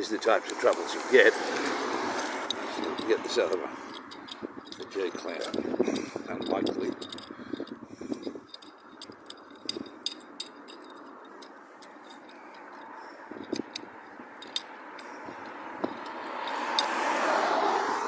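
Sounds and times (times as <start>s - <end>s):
metal parts clicking and tapping: 0.0s - 17.8s.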